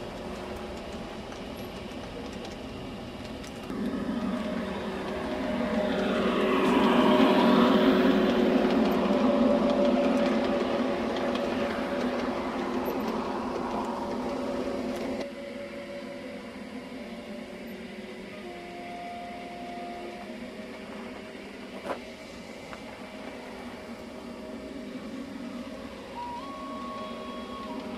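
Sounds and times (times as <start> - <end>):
model train wheels on rails: 0.0 - 27.9.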